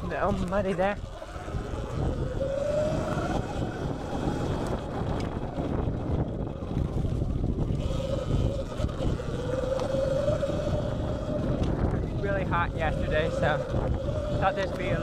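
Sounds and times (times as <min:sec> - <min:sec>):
electric motor whining: 0:00.0 - 0:15.0
tyres rumbling on dirt: 0:00.0 - 0:15.0
wind buffeting microphone: 0:00.0 - 0:15.0.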